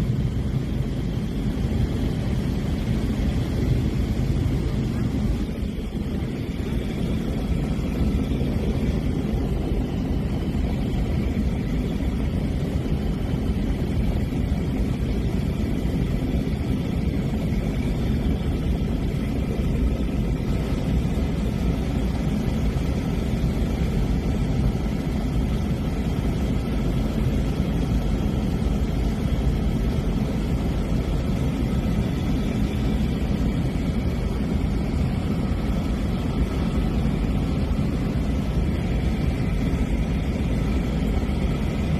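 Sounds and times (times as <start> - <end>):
propeller airplane cabin drone: 0.0 - 41.9.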